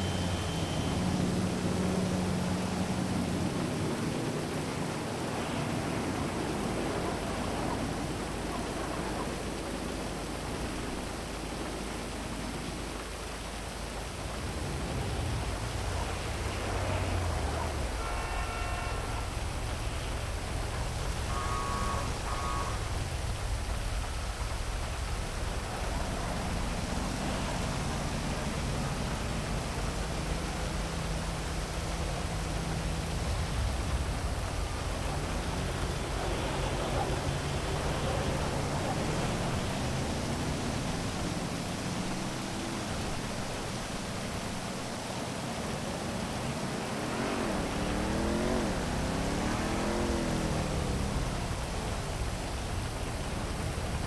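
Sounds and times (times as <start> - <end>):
heavy rain falling: 0.0 - 54.0
traffic hum: 0.0 - 54.0.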